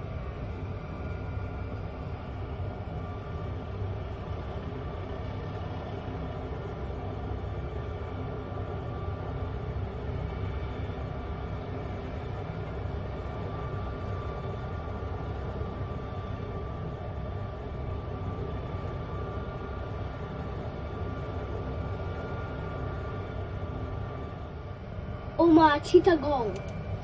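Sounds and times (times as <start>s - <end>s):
helicopter turbine whine and rumble: 0.0s - 27.0s.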